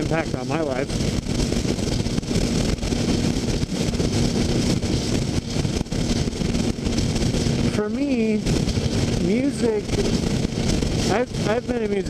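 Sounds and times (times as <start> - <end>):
motorcycle engine humming: 0.0 - 12.0
wind rushing over microphone: 0.0 - 12.0.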